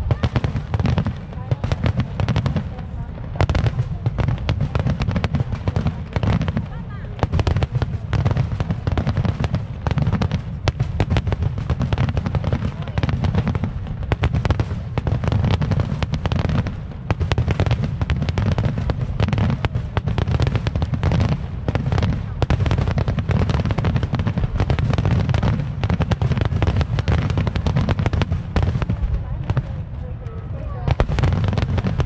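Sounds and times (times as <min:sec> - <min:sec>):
firework booms: 0:00.0 - 0:32.0
firework crackling: 0:00.0 - 0:32.0.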